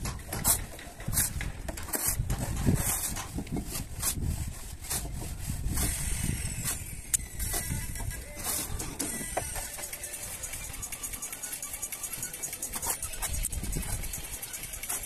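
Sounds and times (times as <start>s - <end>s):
hand tools scraping wet mortar: 0.0s - 15.0s.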